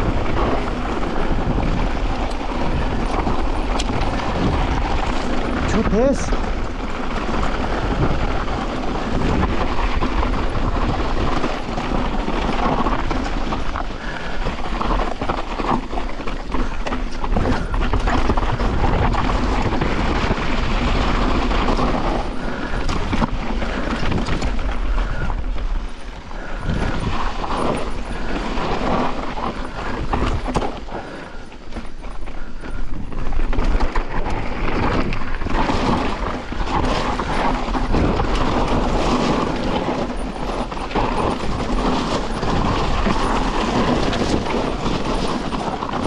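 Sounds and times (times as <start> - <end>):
bike tyres crunching over stones: 0.0 - 46.0.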